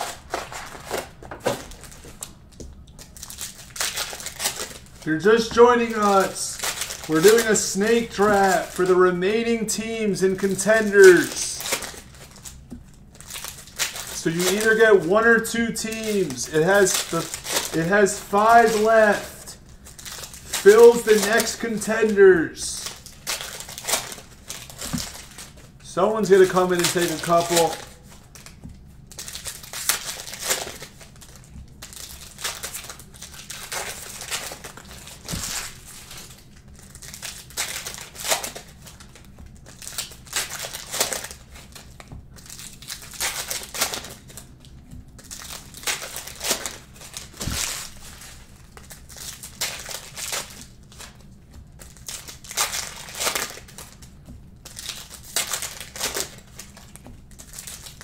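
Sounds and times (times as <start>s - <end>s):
plastic wrappers crinkling: 0.0s - 58.0s.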